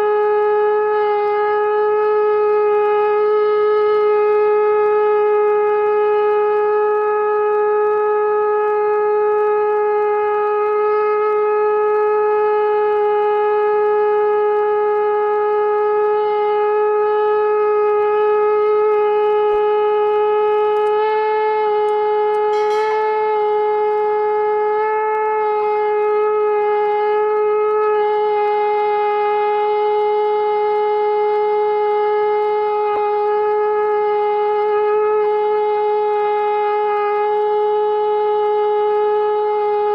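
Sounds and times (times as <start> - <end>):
conch shell blown: 0.0 - 39.9.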